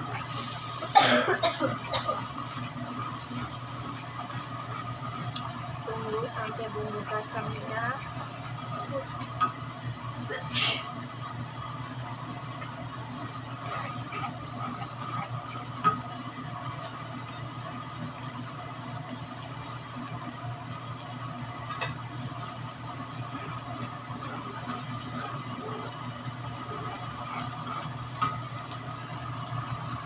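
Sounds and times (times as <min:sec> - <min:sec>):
sauce simmering in a pan: 0:00.0 - 0:30.0.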